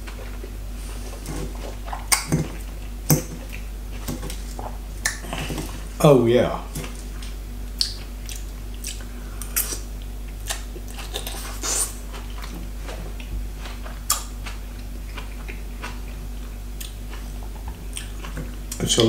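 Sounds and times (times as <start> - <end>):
chewing salad: 0.0 - 5.9, 6.6 - 19.0
faint steady hum: 0.0 - 19.0.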